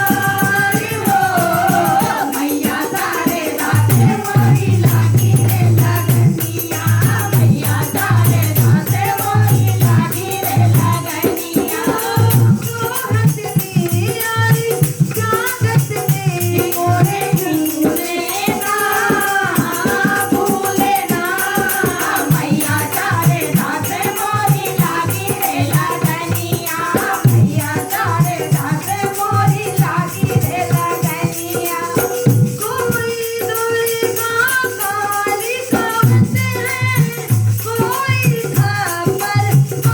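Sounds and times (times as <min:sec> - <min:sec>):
devotional singing: 0:00.0 - 0:39.9
dholak drum: 0:00.0 - 0:39.9
shaken percussion rattle: 0:00.0 - 0:39.9.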